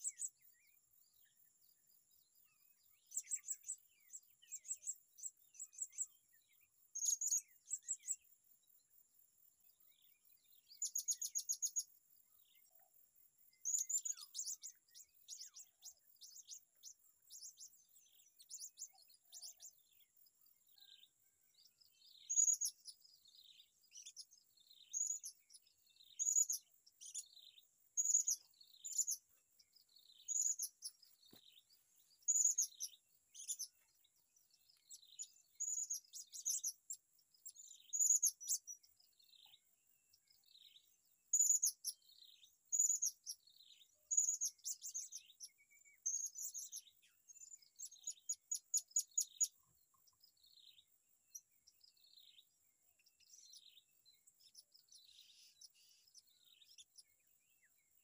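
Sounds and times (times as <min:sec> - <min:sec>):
small bird chirping: 0:00.0 - 0:58.0.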